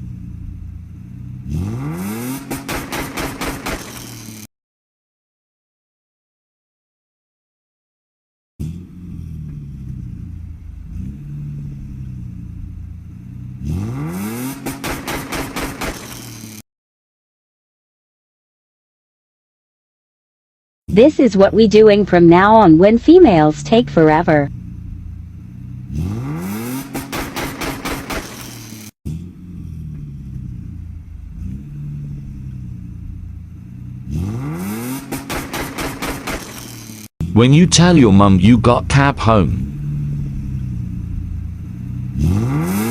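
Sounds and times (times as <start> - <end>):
car engine idling and revving: 0.0 - 4.5, 8.6 - 16.6, 21.0 - 42.9.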